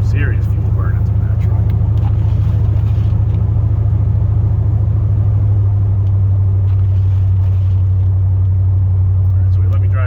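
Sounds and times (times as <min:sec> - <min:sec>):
pickup engine and road hum: 0:00.0 - 0:10.0.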